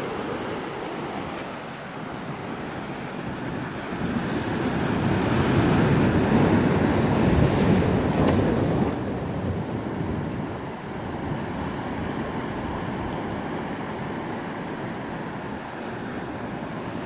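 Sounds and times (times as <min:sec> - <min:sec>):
wind buffeting microphone: 0:00.0 - 0:15.7.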